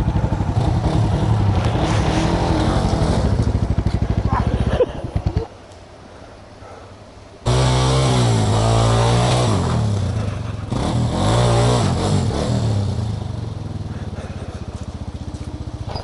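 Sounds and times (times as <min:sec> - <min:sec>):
motorcycle engine revving and idling: 0:00.0 - 0:05.6, 0:07.4 - 0:16.0.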